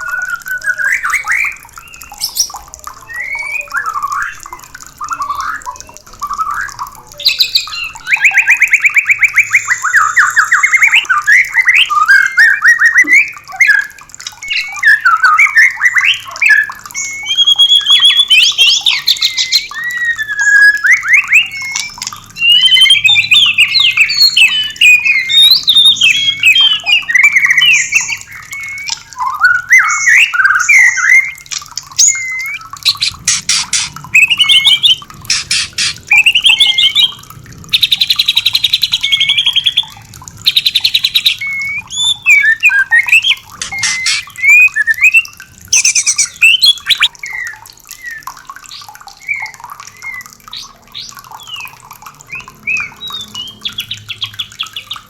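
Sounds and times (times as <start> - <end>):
bird song whistles and trills: 0.0 - 55.0.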